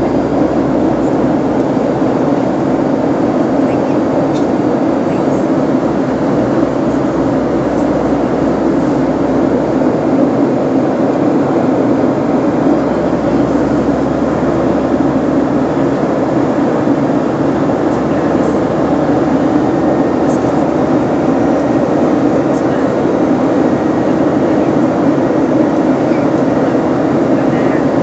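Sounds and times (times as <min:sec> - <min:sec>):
airplane engine and airflow noise: 0:00.0 - 0:28.0.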